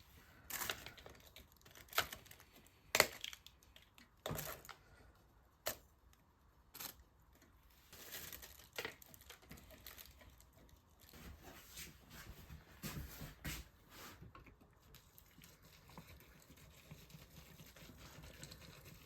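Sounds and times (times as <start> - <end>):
rustling and crinkling: 0.0 - 19.0.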